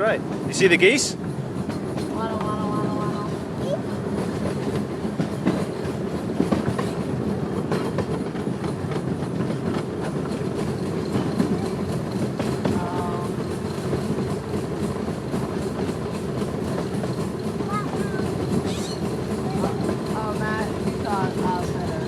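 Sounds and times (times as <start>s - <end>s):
miniature train rumbling on track: 0.0s - 22.0s
wheels clacking over rail joints: 0.0s - 22.0s.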